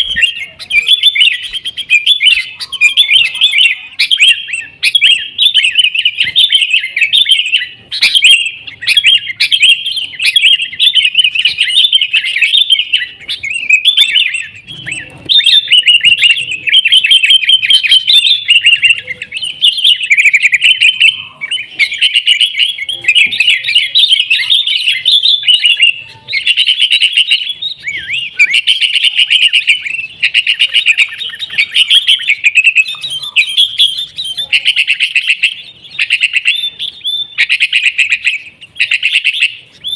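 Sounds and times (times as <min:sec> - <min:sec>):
bulbuls singing rapid chattering notes: 0:00.0 - 0:39.9.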